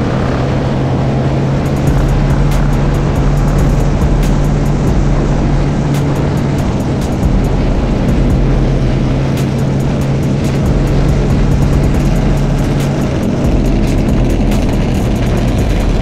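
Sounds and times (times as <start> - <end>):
dirt bike and atv engines: 0.0 - 16.0
wind over microphone: 0.0 - 16.0.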